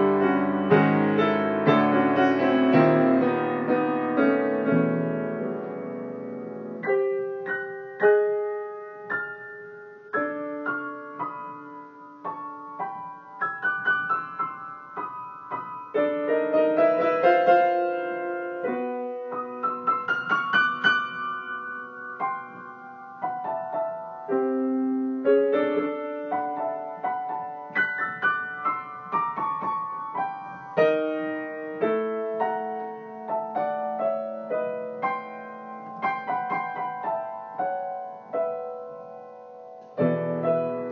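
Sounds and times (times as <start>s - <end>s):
solo piano chords: 0.0s - 40.9s.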